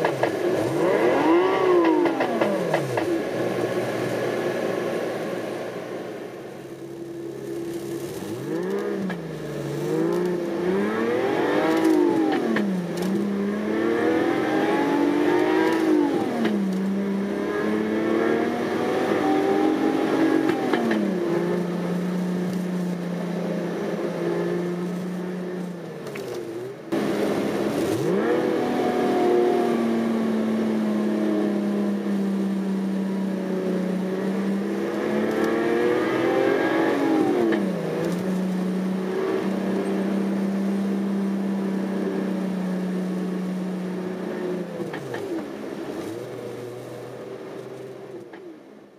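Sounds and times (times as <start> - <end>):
synthetic engine sound through car stereo: 0.0 - 48.9.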